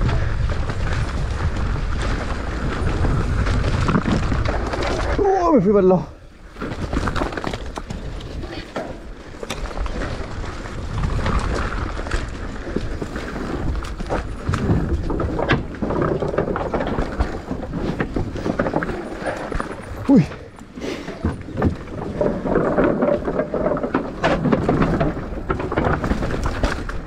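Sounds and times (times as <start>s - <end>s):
bike rattling and knocking: 0.0s - 27.0s
tyres rolling over loose ground: 0.0s - 27.0s.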